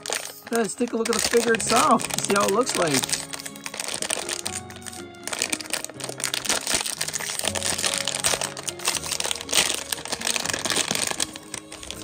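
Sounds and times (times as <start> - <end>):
background music with held notes: 0.0 - 12.0
foil bag crinkling: 0.0 - 12.0.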